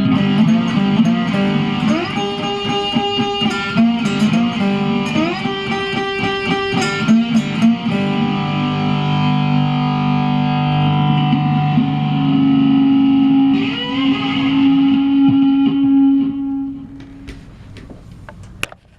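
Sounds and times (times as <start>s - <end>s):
electric guitar solo: 0.0s - 17.4s.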